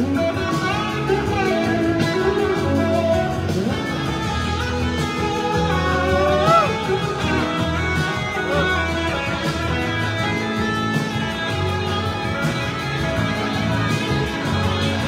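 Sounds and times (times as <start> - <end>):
bass and band accompaniment: 0.0 - 15.0
electric guitar lead: 0.0 - 15.0.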